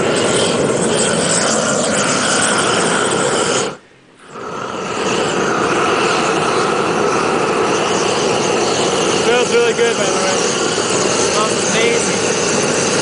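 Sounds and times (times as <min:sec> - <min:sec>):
torch flame blowing: 0:00.0 - 0:13.0.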